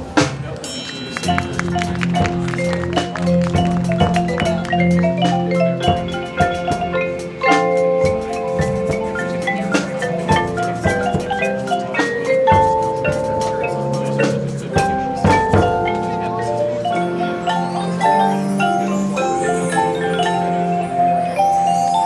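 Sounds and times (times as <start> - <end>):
marching band: 0.0 - 21.9
mallet percussion notes: 0.0 - 22.0.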